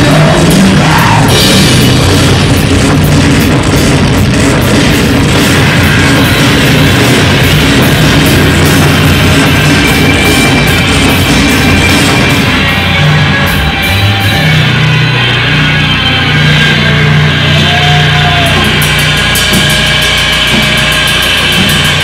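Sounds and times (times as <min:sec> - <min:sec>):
distorted guitar noise: 0:00.0 - 0:22.0
low droning tones: 0:00.0 - 0:22.0.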